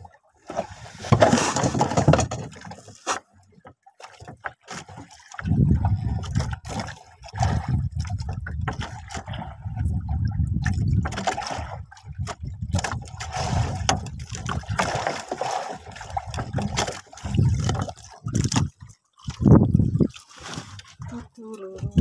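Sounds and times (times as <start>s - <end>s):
water sloshing around boat: 0.0s - 22.0s.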